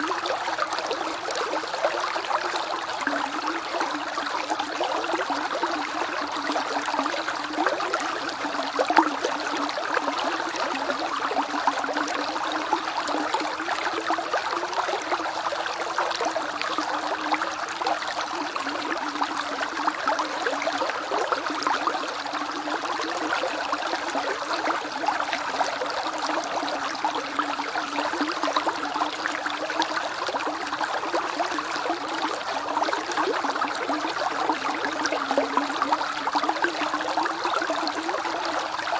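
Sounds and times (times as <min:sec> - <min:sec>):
creek bubbling over stones: 0:00.0 - 0:38.9.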